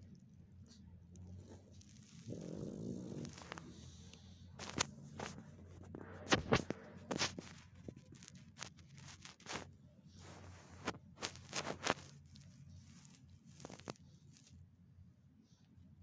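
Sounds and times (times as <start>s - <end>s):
dog sniffing and snuffling: 0.6s - 14.5s.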